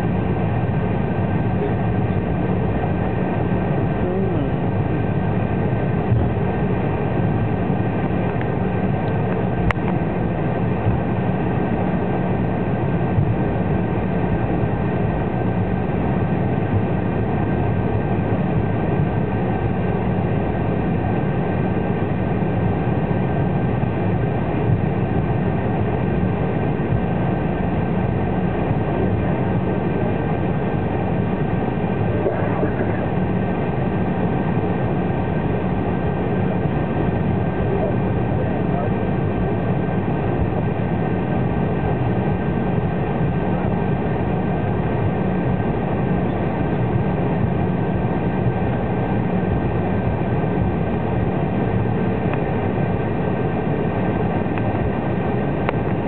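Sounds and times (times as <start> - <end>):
high engine whine: 0.0 - 56.0
jet engines rumbling: 0.0 - 56.0.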